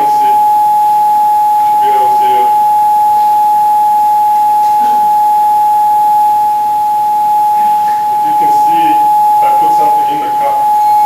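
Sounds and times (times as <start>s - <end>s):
loud steady pure tone: 0.0s - 11.0s.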